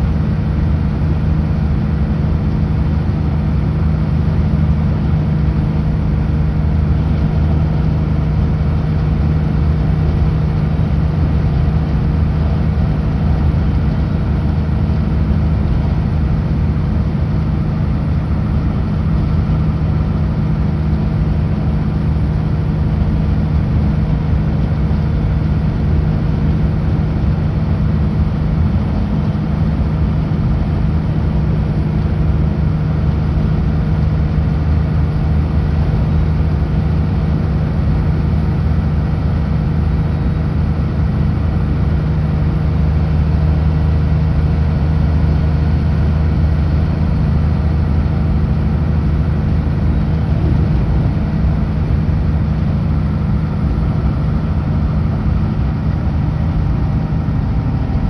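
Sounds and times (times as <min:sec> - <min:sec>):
road and tyre noise: 0:00.0 - 0:58.0
truck diesel engine droning: 0:00.0 - 0:58.0.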